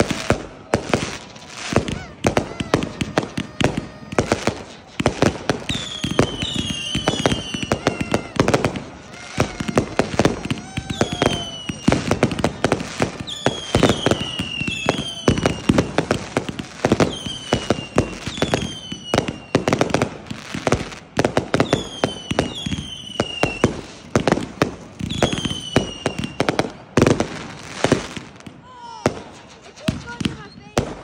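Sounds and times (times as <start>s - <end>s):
crackling firework bursts: 0.0s - 31.0s
falling firework whistles: 0.0s - 31.0s.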